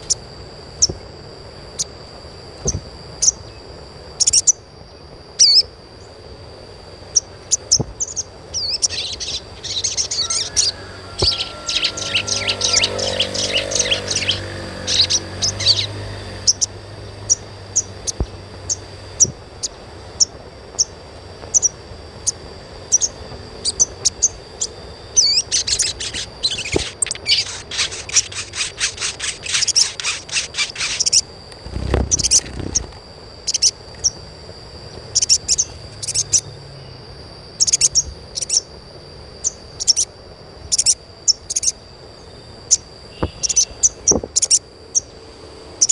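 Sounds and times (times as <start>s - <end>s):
steady high ringing tone: 0.0s - 45.9s
bird twittering: 2.6s - 3.6s, 4.2s - 5.7s, 7.1s - 34.2s, 35.1s - 38.7s, 39.4s - 40.1s, 40.7s - 45.1s.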